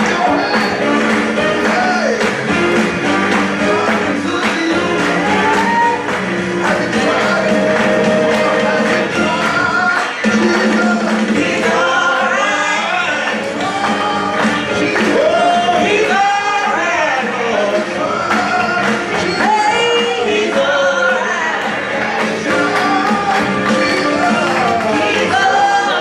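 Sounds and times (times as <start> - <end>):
gospel singing with instruments: 0.0 - 26.0.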